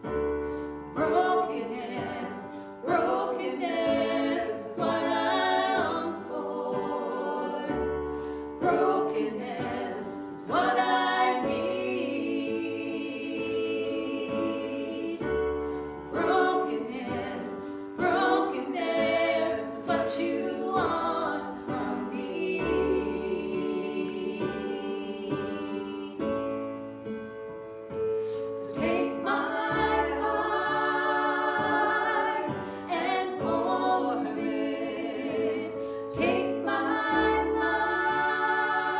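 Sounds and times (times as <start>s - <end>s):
group singing worship song: 0.0s - 26.6s, 27.9s - 38.9s.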